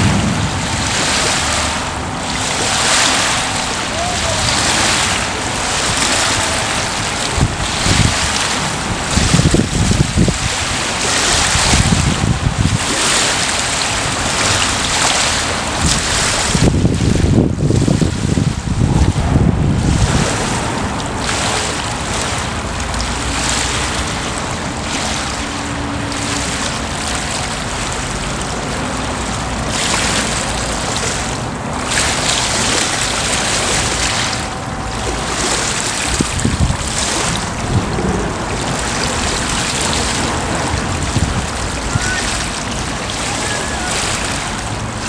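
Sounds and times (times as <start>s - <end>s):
water waves splashing: 0.0s - 45.0s
wind rumble on microphone: 0.0s - 45.0s.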